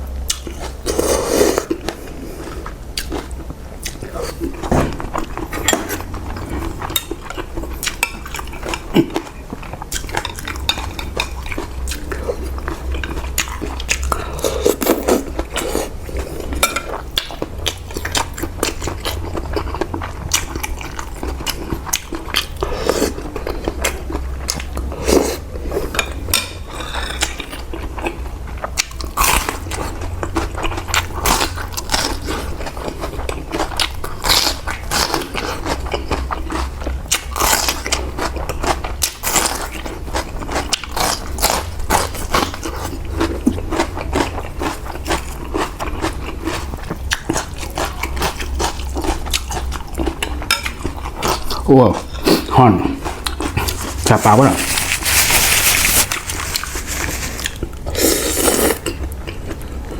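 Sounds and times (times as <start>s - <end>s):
steady low hum: 0.0s - 59.9s
person chewing food: 0.2s - 59.9s.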